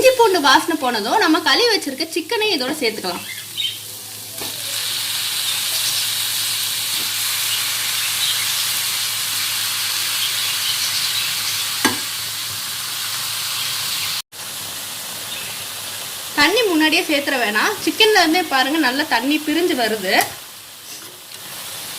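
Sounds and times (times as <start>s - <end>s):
meat sizzling in hot oil: 0.0s - 21.9s.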